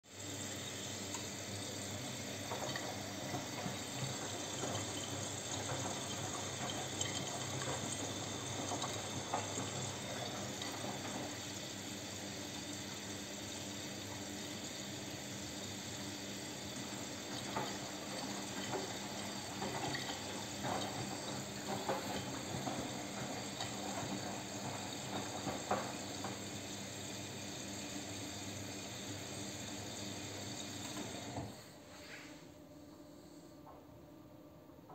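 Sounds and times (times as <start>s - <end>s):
water spraying into washing machine drum: 0.1s - 31.6s.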